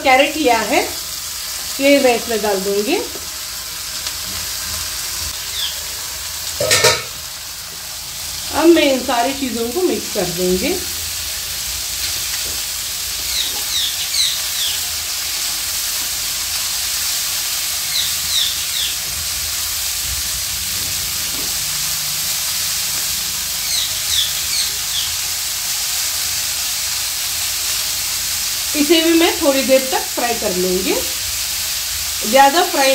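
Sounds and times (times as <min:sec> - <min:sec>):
vegetables sizzling in oil: 0:00.0 - 0:32.9.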